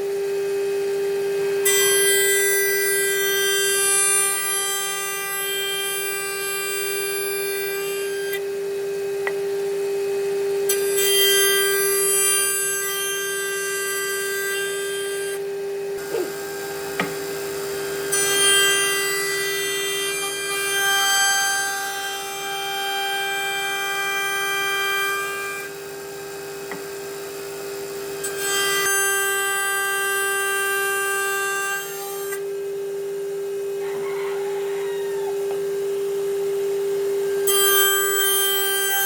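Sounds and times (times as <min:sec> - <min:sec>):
power tool whining on wood: 0:00.0 - 0:34.1, 0:35.0 - 0:39.0.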